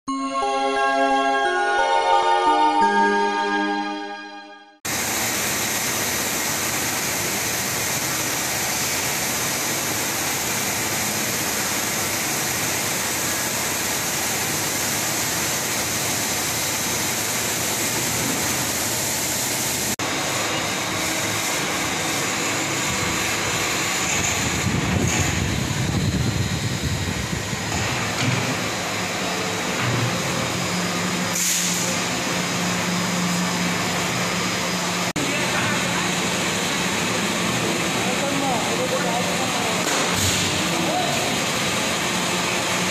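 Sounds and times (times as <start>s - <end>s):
foundry machinery rushing: 4.9s - 42.9s.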